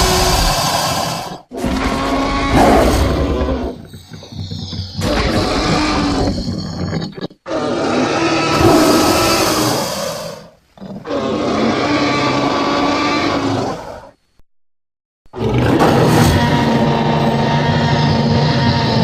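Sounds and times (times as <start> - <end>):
creature roaring: 0.0 - 3.9, 4.8 - 14.2, 15.3 - 19.0.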